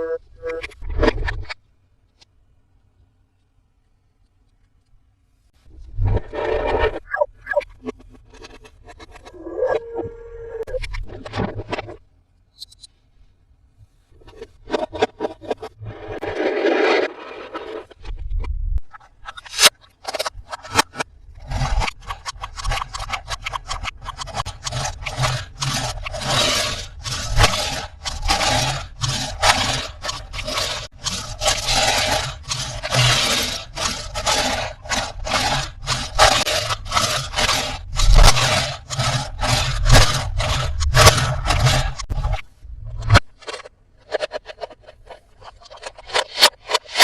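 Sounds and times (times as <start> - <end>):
plastic scraping and rubbing: 4.7 - 12.1, 13.8 - 47.0.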